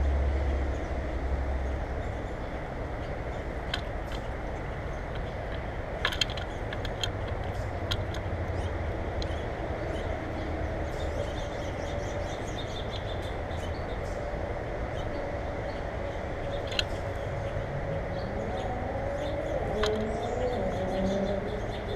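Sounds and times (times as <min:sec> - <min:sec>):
low rumble with faint hum: 0:00.0 - 0:21.9
small birds chirping: 0:01.6 - 0:21.9.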